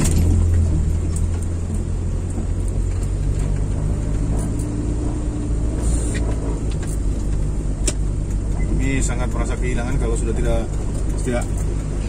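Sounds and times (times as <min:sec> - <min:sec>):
faint steady engine tone: 0:00.0 - 0:12.0
vehicle engine rumble and road noise: 0:00.0 - 0:12.0.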